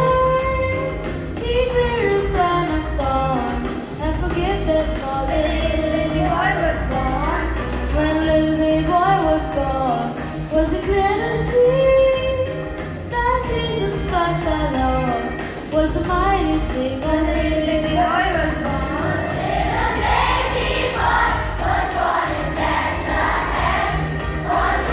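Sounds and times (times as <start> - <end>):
backing music with bass: 0.0 - 24.9.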